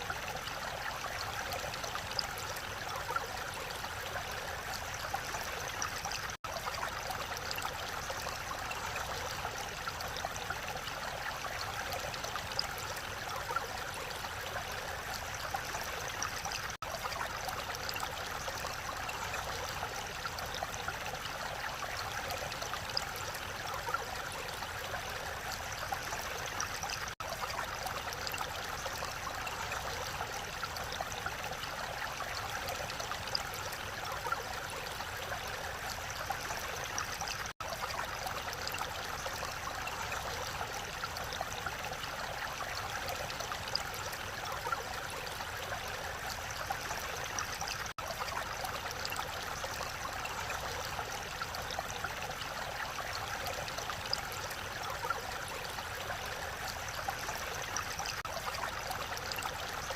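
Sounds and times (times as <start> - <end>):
stream rushing over its bed: 0.0 - 59.9.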